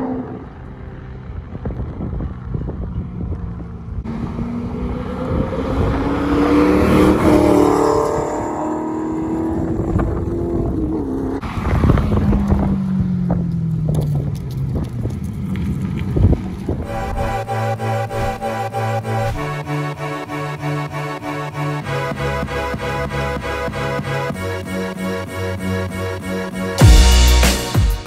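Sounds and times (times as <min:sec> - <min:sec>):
sports car engine passing: 0:00.0 - 0:27.6.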